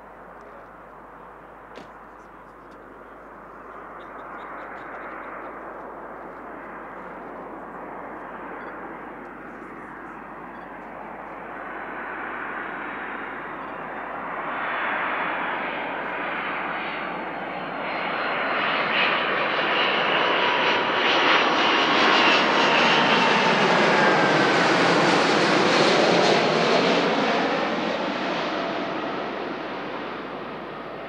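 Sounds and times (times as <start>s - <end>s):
jet aircraft passing overhead: 0.0s - 31.0s.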